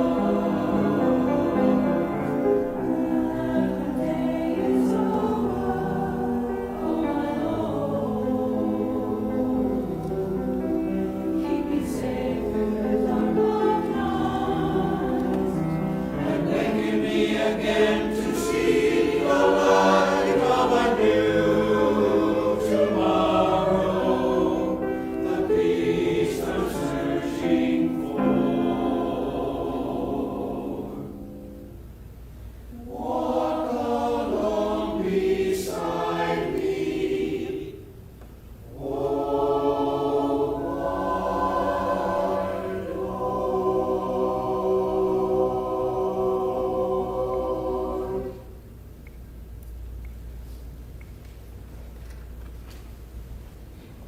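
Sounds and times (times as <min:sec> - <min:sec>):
choir singing: 0:00.0 - 0:31.7, 0:32.7 - 0:48.7.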